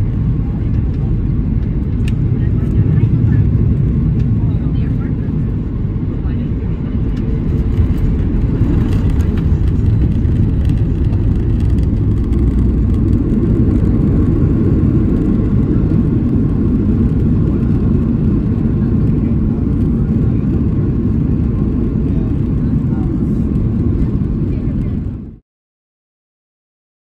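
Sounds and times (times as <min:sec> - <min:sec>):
airplane cabin rumble on runway: 0:00.0 - 0:25.4.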